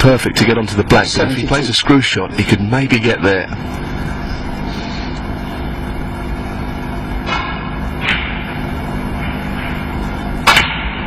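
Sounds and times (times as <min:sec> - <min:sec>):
broadcast hum and hiss: 0:00.0 - 0:11.0.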